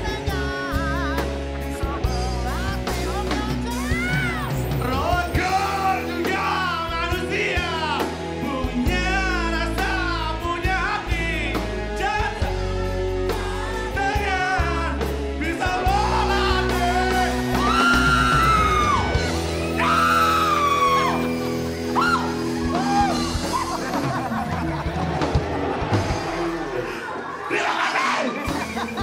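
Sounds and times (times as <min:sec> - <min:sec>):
man singing rock high-pitched: 0:00.0 - 0:23.6, 0:26.6 - 0:29.0
loud rock backing music: 0:00.0 - 0:29.0.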